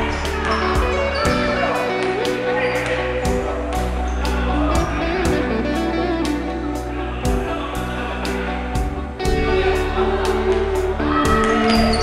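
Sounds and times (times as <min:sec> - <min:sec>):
guitar music with steady beat: 0:00.0 - 0:11.8.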